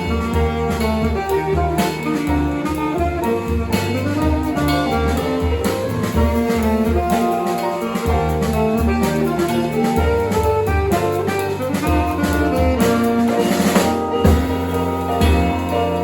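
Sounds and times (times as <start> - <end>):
jazz band playing: 0.0 - 16.0
saxophone melody notes: 0.0 - 16.0
steady drum beat: 0.0 - 16.0.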